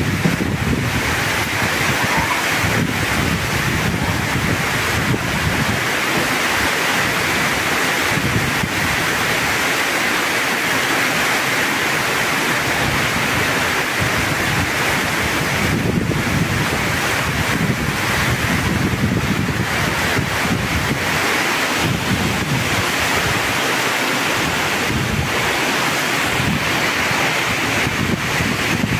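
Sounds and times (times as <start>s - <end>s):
wind buffeting microphone: 0.0s - 9.6s, 12.4s - 28.9s
heavy rain pouring: 0.0s - 28.9s.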